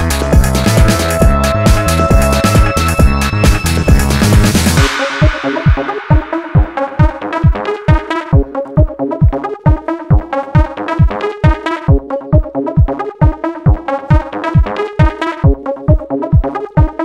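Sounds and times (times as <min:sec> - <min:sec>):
kick drum: 0:00.0 - 0:17.0
synthesizer chords: 0:00.0 - 0:17.0.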